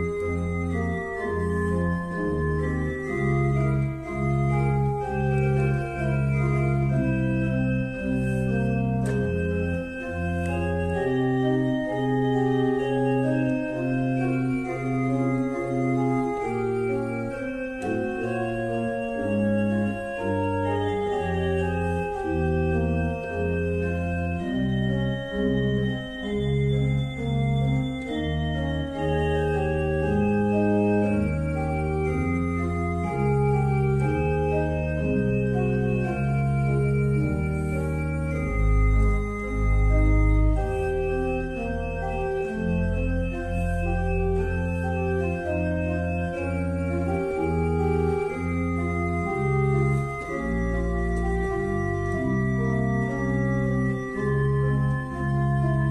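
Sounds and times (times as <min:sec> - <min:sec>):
organ bass notes: 0:00.0 - 0:55.9
organ chords: 0:00.0 - 0:55.9.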